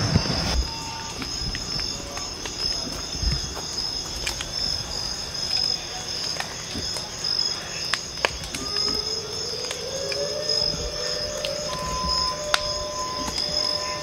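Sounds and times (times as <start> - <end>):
crickets trilling: 0.0 - 14.0
fire popping and cracking: 0.0 - 14.0.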